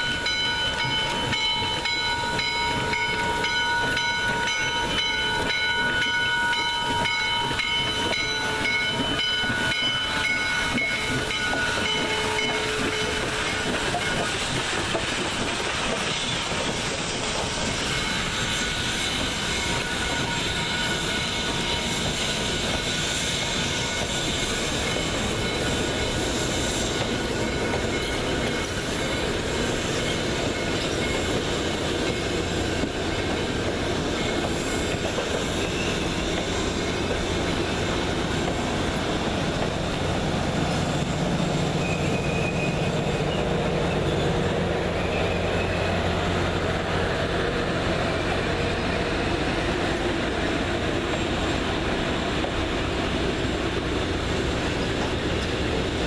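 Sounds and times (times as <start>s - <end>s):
high wheel squeals: 0.0s - 52.2s
train wheels rumbling on rails: 0.0s - 56.0s.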